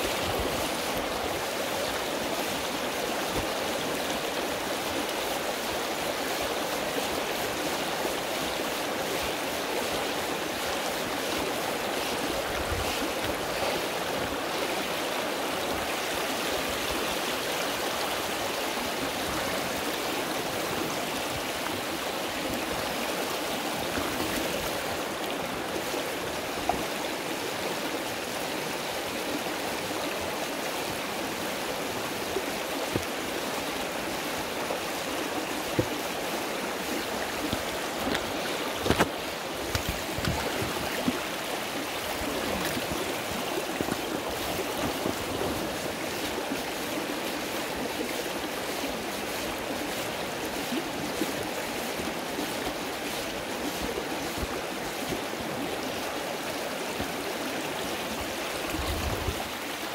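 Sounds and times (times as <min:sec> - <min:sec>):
river flowing over gravel: 0:00.0 - 0:59.9.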